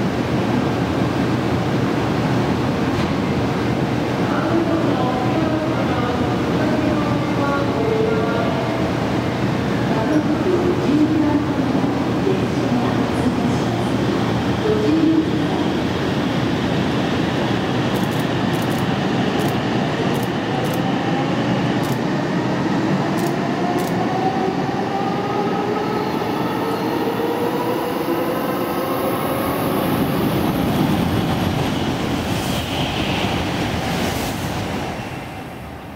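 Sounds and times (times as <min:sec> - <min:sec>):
train rushing past: 0:00.0 - 0:35.9.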